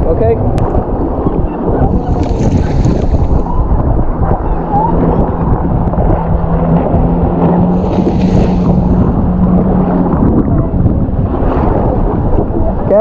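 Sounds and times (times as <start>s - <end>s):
wind buffeting microphone: 0.0s - 13.0s
low motor hum: 0.4s - 13.0s.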